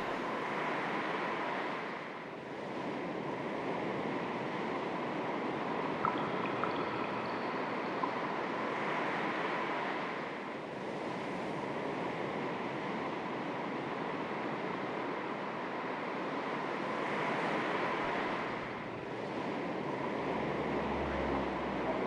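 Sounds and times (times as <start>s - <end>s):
gentle sea waves lapping: 0.0s - 21.7s.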